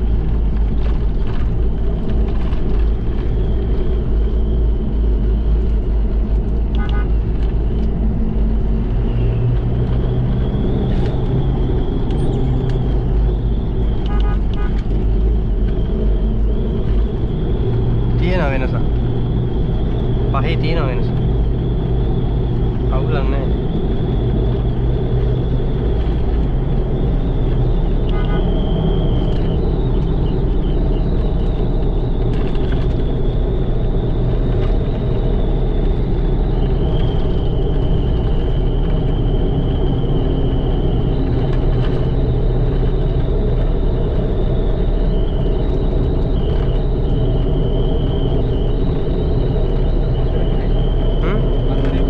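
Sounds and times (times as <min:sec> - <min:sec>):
diesel engine drone: 0:00.0 - 0:52.0
high engine whine: 0:00.0 - 0:52.0.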